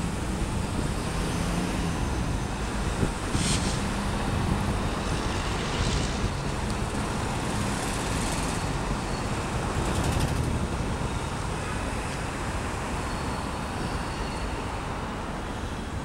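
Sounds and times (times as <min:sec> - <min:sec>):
cars passing: 0:00.0 - 0:15.7.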